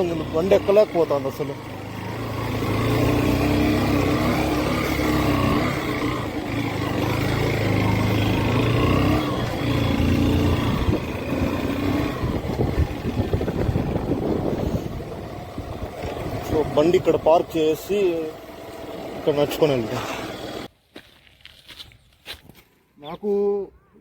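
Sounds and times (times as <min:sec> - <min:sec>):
motorcycle engine revving: 0:00.0 - 0:20.7.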